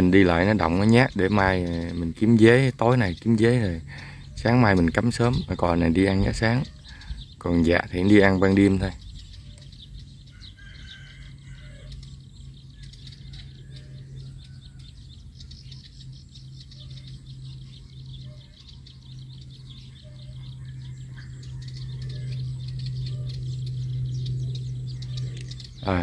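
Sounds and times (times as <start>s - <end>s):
bird chirps: 0.0s - 26.0s
low motor hum: 0.0s - 26.0s.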